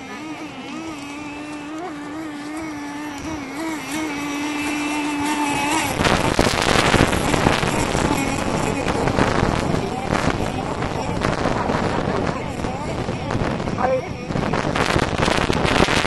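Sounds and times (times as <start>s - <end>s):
racing boat motor whine: 0.0s - 16.0s.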